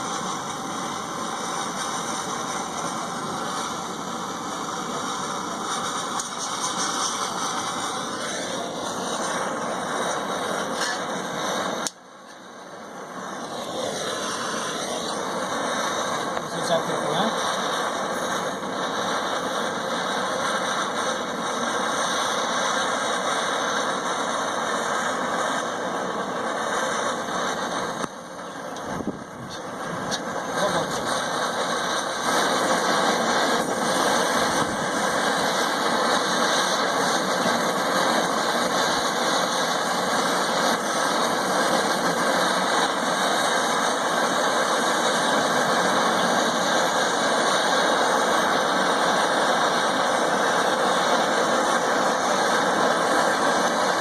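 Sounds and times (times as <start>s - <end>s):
torch flame hissing: 0.0s - 54.0s.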